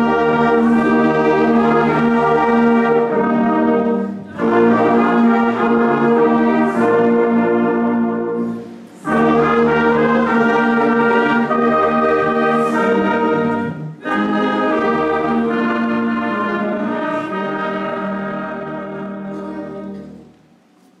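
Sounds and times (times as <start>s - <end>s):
brass ensemble playing chords: 0.0s - 20.2s.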